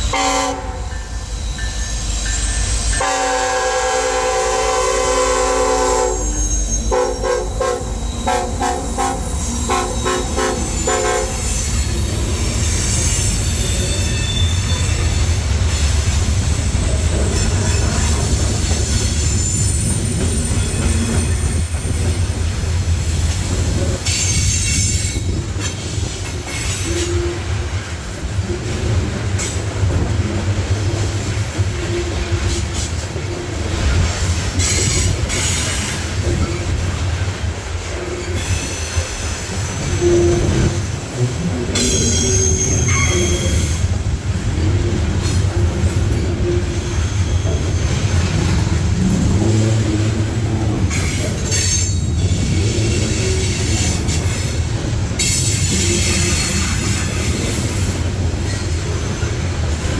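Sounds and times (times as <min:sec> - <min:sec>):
train wheels rumbling on rail: 0:00.0 - 0:59.9
steel wheels squealing: 0:00.8 - 0:03.0, 0:05.8 - 0:22.6, 0:23.8 - 0:27.5, 0:31.8 - 0:36.8, 0:38.1 - 0:44.0, 0:44.6 - 0:59.9
rail joint clicks and knocks: 0:11.8 - 0:59.9.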